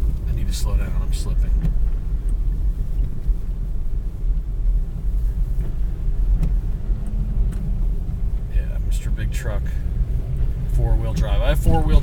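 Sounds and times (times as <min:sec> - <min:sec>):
car driving on snow: 0:00.0 - 0:12.0.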